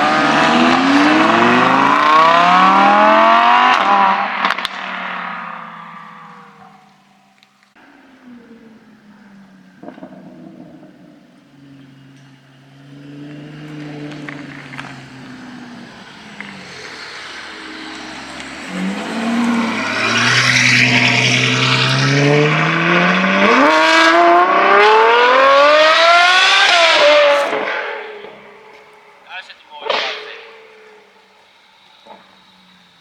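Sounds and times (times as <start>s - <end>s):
sports car engine accelerating: 0.0s - 33.0s.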